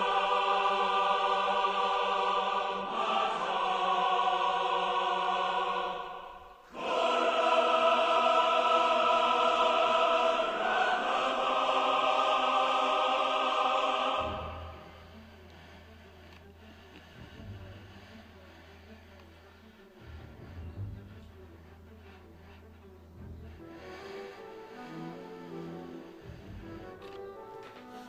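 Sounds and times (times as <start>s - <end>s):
choir singing held chords: 0.0s - 20.0s, 23.5s - 28.0s.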